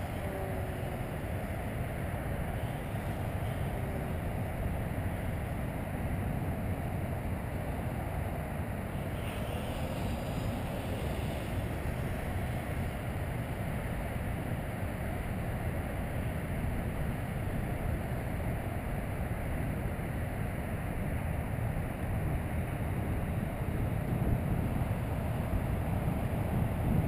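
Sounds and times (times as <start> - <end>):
faint model plane motor whine: 0.0 - 27.0
wind rumble on microphone: 0.0 - 27.0.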